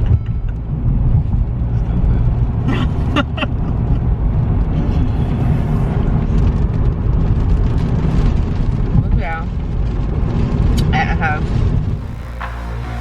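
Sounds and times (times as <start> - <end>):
car engine rumble and road noise: 0.0 - 13.0.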